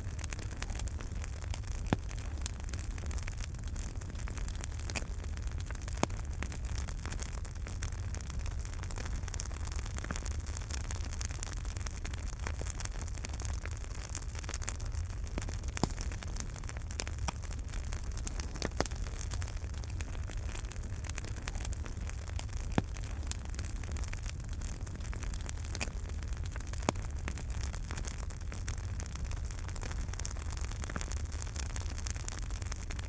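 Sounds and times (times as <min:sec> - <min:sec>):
fire crackling and popping: 0:00.0 - 0:33.0
wood fire rumble and hiss: 0:00.0 - 0:33.0.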